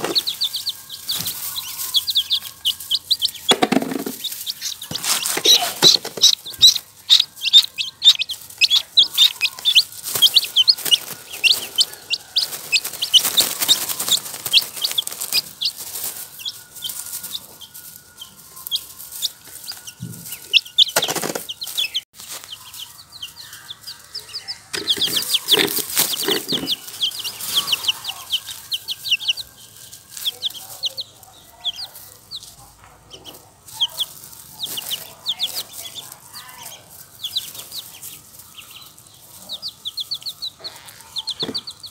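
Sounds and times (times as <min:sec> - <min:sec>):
chicks and ducklings peeping: 0:00.0 - 0:41.9.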